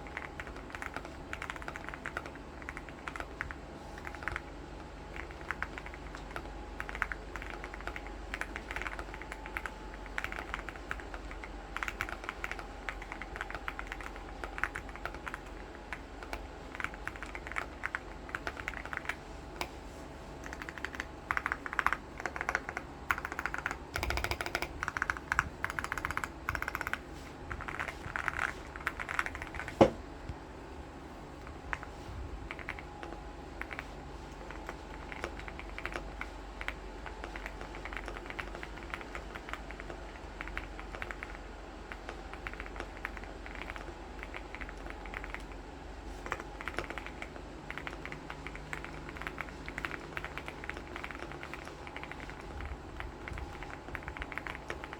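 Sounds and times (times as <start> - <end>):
mechanical keyboard typing: 0.0 - 19.8, 20.4 - 30.0, 32.5 - 45.6, 46.2 - 54.9.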